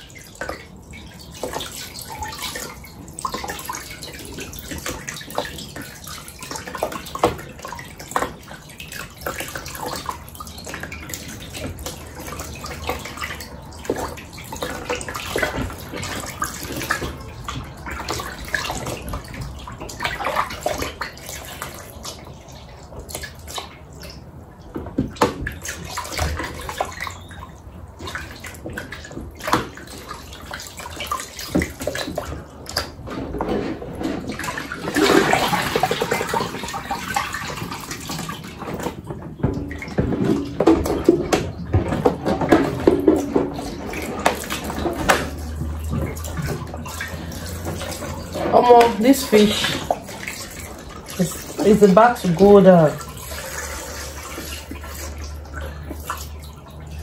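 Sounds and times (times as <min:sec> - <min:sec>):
tap running into basin of water: 0:00.0 - 0:57.0
water splashing and sloshing: 0:00.0 - 0:57.0.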